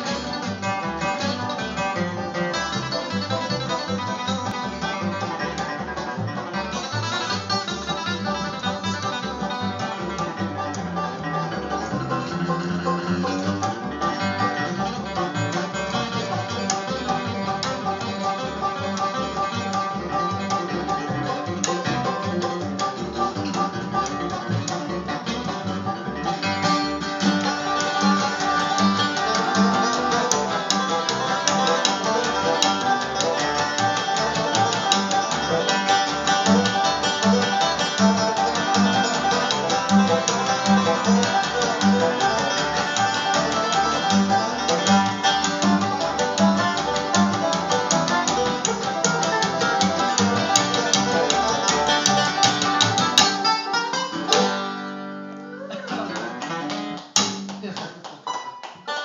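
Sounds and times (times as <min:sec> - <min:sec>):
bluegrass guitar and banjo: 0:00.0 - 0:59.0.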